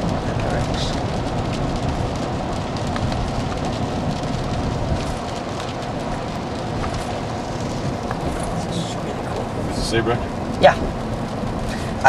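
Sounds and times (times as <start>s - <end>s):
car road and engine noise: 0.0s - 12.0s
rain ticking on car: 0.0s - 12.0s.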